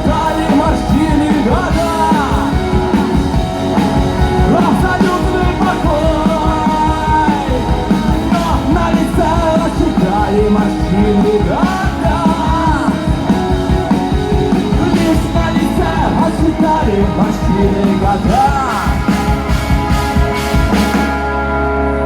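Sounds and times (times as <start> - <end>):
rock band music: 0.0 - 22.0.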